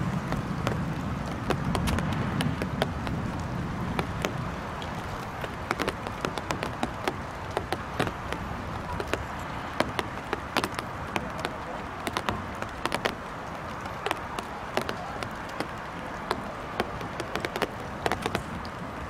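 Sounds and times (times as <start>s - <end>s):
raindrops tapping close by: 0.0s - 19.0s
steady patter of rain: 0.0s - 19.0s.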